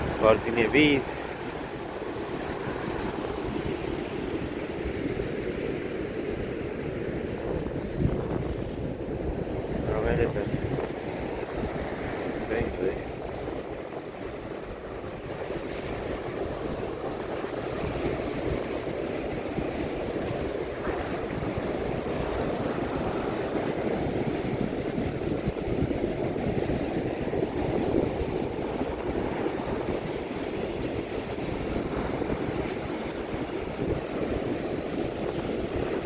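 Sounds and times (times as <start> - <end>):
surf breaking on beach: 0.0 - 5.8, 7.5 - 36.0
wind buffeting microphone: 0.0 - 36.0.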